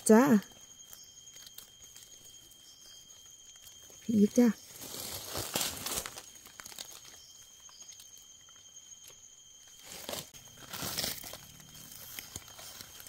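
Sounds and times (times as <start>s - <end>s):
dry leaves rustling and crackling: 0.9s - 8.1s, 9.7s - 13.0s.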